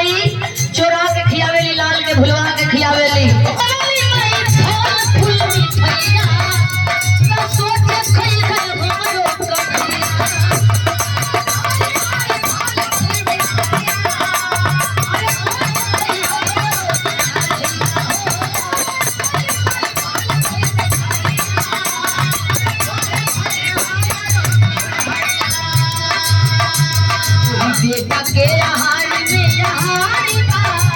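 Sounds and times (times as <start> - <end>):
steady drum beat: 0.0 - 30.9.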